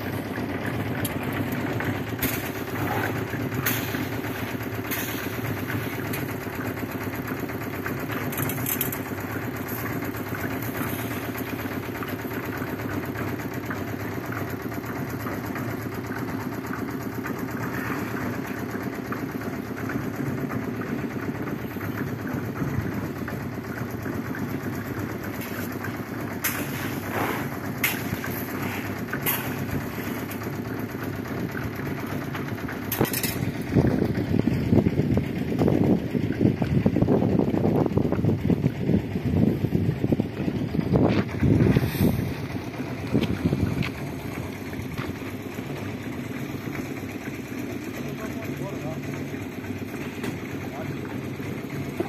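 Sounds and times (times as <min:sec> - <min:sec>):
engine running: 0:00.0 - 0:52.0.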